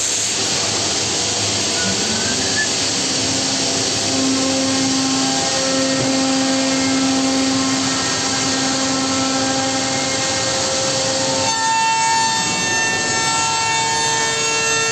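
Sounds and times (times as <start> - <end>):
cnc machine cutting: 0.0 - 14.9
high machine whine: 0.0 - 14.9.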